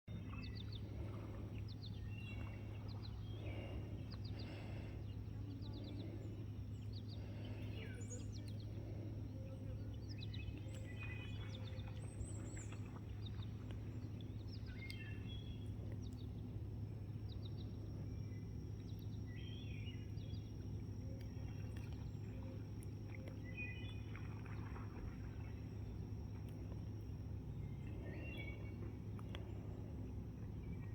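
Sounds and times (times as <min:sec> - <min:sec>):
low background hum: 0:00.1 - 0:30.9.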